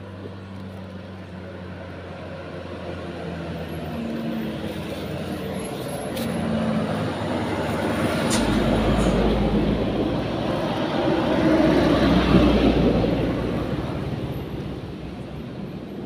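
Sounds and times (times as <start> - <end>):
vehicle engine approaching: 0.0 - 16.0.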